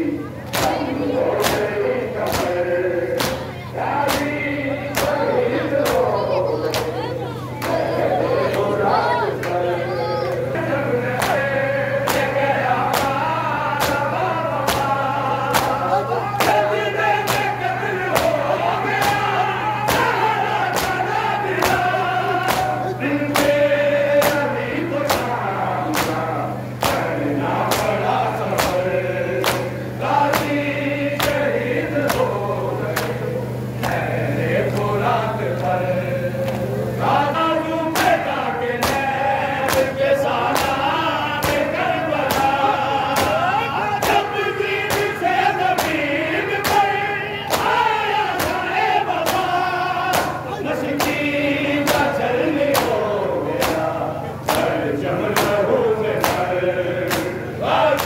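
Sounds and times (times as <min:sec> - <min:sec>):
men chanting in chorus: 0:00.0 - 0:58.0.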